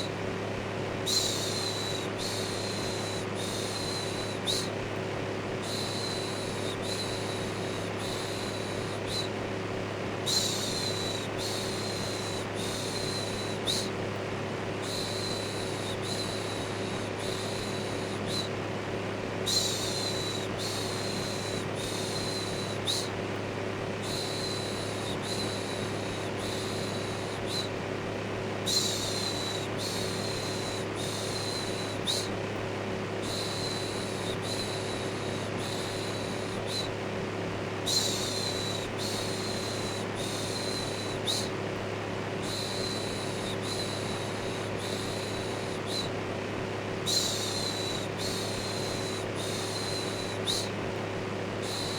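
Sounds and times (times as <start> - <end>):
electric fan humming: 0.0 - 51.9.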